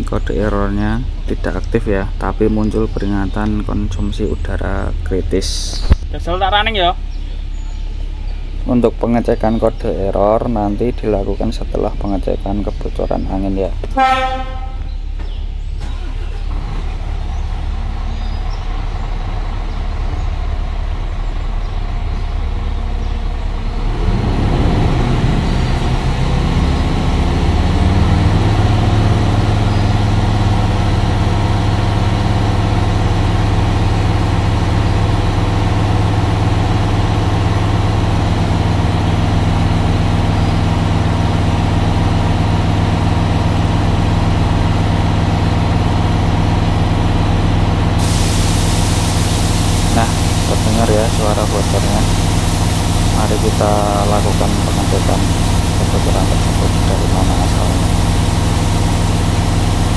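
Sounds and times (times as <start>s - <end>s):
diesel truck engine idling and revving: 0.0s - 59.9s.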